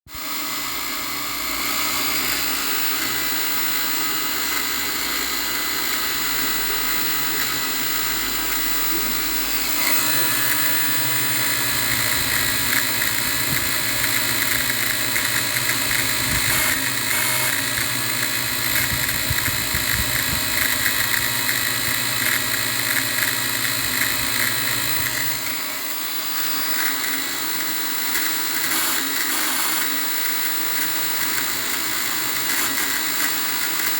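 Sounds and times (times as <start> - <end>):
drone propellers whining: 0.3 - 28.1.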